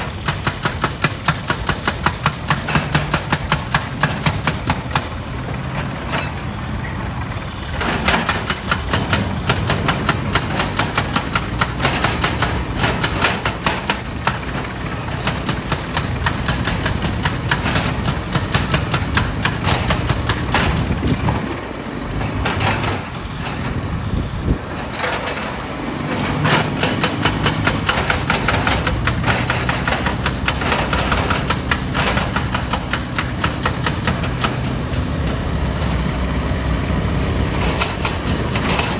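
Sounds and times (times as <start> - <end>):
engine rumble: 2.2 - 38.9.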